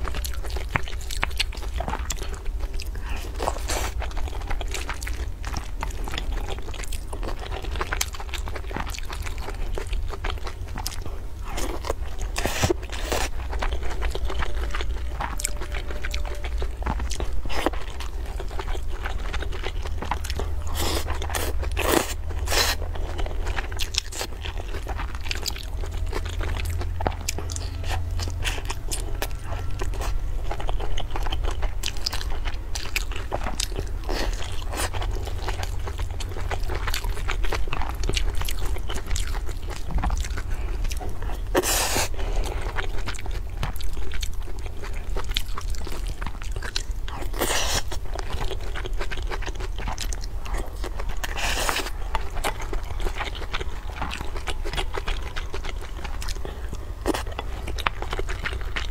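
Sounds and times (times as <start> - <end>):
steady low hum: 0.0 - 58.9
wet chewing and crunching: 0.0 - 58.9.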